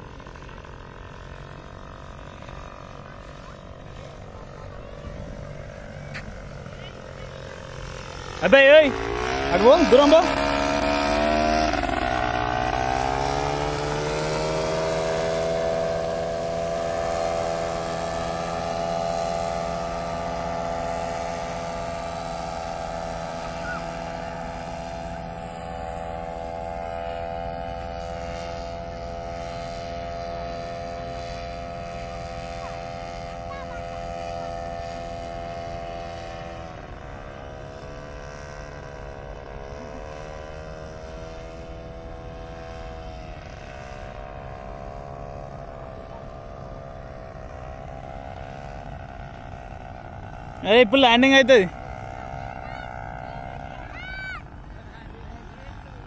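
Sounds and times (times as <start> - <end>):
paraglider engine and propeller droning: 0.0 - 56.0.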